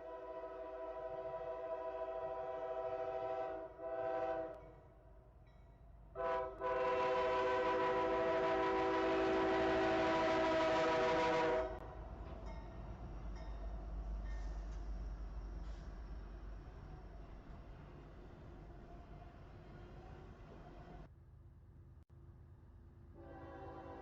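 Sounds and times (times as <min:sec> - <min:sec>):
low train rumble: 0:00.0 - 0:24.0.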